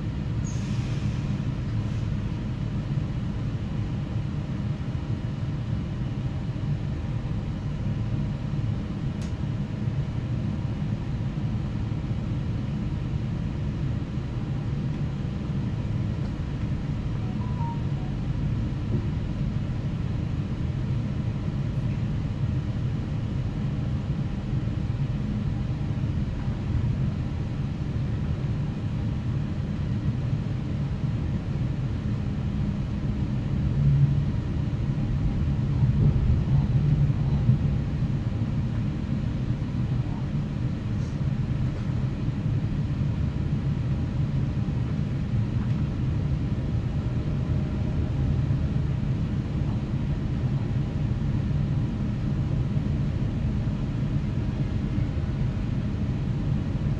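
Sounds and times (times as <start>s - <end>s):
train rumble from inside cabin: 0.0s - 56.9s.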